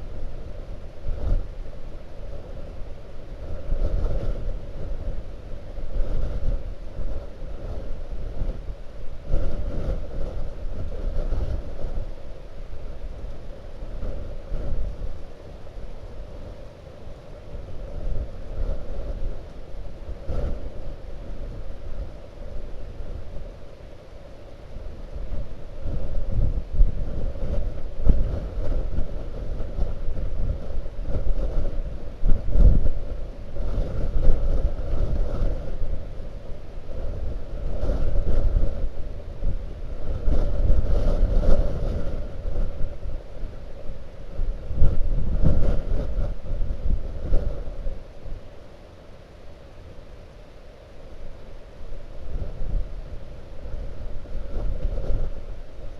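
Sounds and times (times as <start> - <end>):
wind buffeting microphone: 0.0 - 49.3, 51.0 - 55.9.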